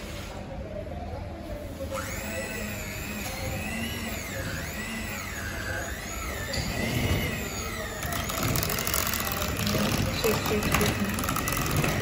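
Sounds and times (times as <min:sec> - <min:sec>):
stand mixer whining: 0:02.0 - 0:12.0.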